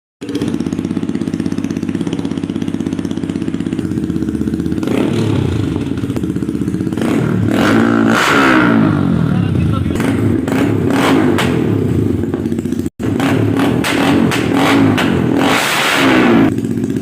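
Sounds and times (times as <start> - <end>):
motorcycle engine idling and revving: 0.2 - 17.0.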